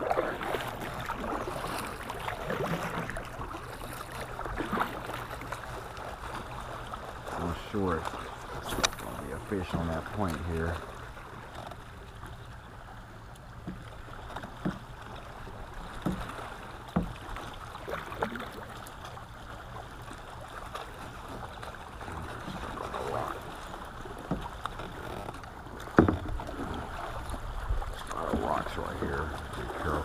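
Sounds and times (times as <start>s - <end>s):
small waves lapping against hull: 0.0s - 30.0s.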